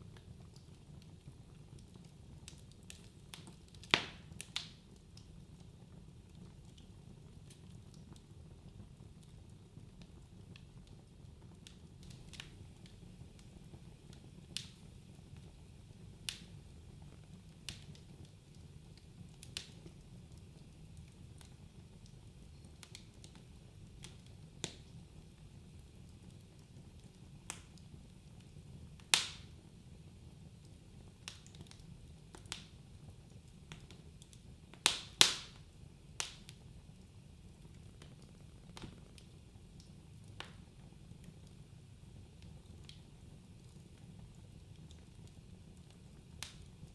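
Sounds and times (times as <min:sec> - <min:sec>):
low rumble of flames: 0:00.0 - 0:46.9
wood fire crackling: 0:00.0 - 0:46.9.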